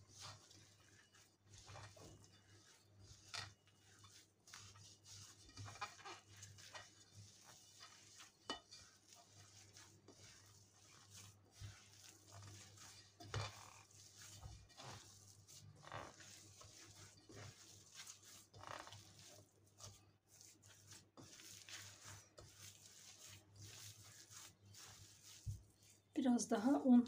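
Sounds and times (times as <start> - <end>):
hands kneading dough: 0.0 - 27.0.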